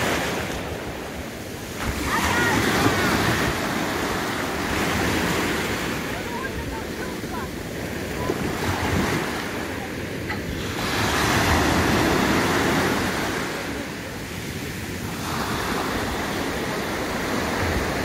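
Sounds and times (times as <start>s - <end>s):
small waves on pebble shore: 0.0s - 18.0s.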